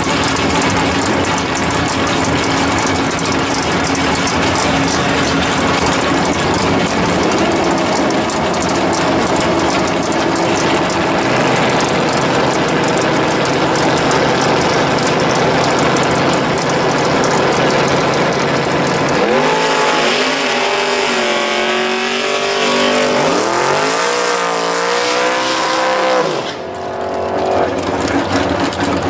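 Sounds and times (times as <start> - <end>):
truck engine revving: 0.0 - 29.0
tyres spinning in a burnout: 0.0 - 29.0.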